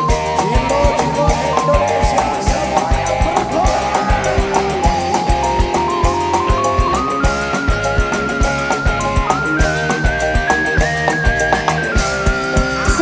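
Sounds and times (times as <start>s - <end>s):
band playing instrumental music: 0.0s - 13.0s
drum and bass beat: 0.0s - 13.0s
melody line: 0.0s - 13.0s.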